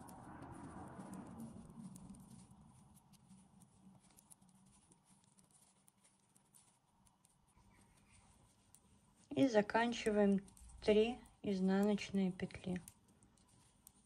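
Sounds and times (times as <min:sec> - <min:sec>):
metal knitting needles clicking: 0:00.0 - 0:14.0
yarn rustling: 0:00.0 - 0:14.0.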